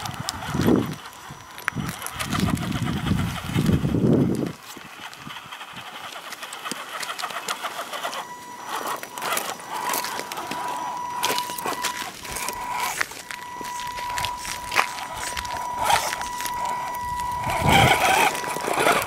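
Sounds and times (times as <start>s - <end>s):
high whine of electric motor: 0.0s - 19.0s
tyres crunching on loose stones: 0.0s - 19.0s.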